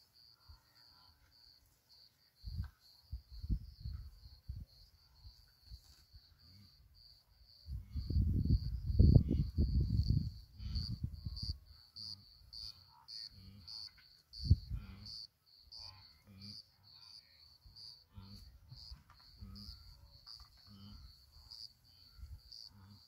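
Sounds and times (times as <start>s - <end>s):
insect chirping: 0.0s - 23.0s.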